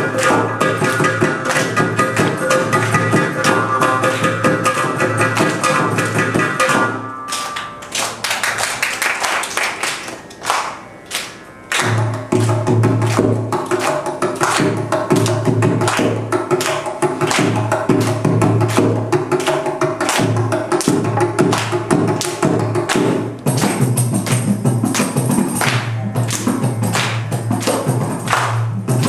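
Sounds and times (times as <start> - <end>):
percussion ensemble playing: 0.0 - 29.0.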